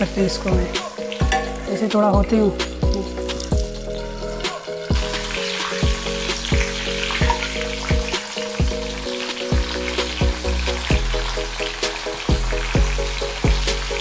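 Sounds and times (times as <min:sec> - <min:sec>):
food deep-frying in oil: 0:00.0 - 0:14.0.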